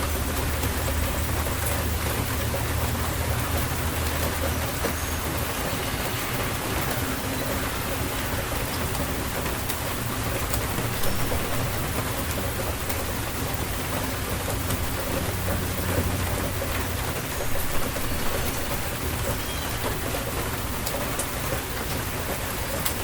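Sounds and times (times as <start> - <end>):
steady rain on surfaces: 0.0 - 23.0.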